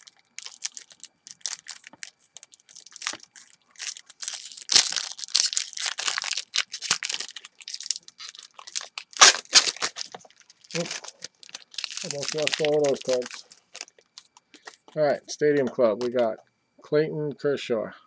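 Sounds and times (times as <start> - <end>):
wrapper tearing and crinkling: 0.0 - 14.9.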